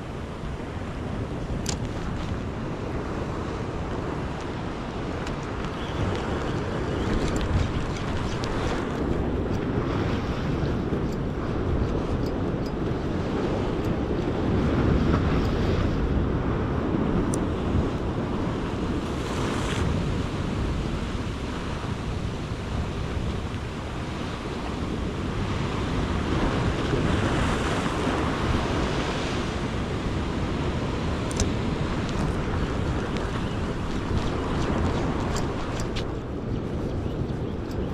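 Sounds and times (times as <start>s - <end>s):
sea swell washing against rocks: 0.0s - 37.8s
wind rumbling on microphone: 0.0s - 37.9s.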